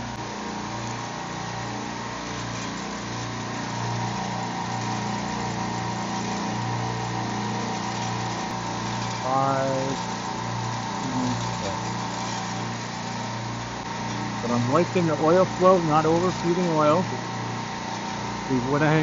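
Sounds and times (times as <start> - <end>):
compressors humming: 0.0 - 19.0.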